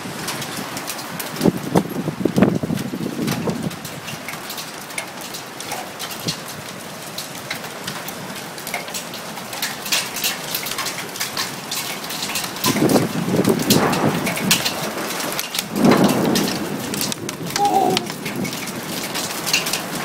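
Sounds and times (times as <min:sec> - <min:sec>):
hailstones striking ground: 0:00.0 - 0:20.0.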